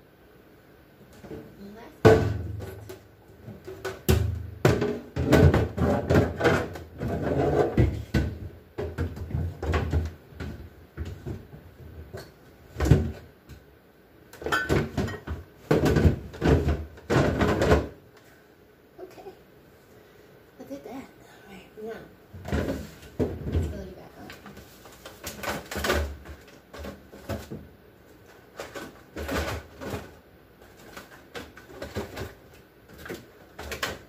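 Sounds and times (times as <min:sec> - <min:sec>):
shelves and containers clunking: 0:01.1 - 0:13.6, 0:14.3 - 0:18.0, 0:22.3 - 0:34.0.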